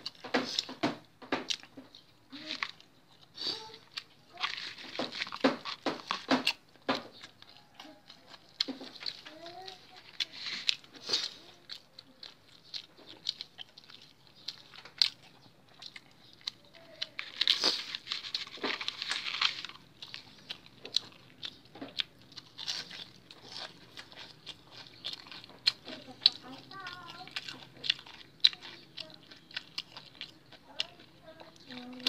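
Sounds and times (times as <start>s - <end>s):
crunching breaded chicken: 0.0s - 32.0s.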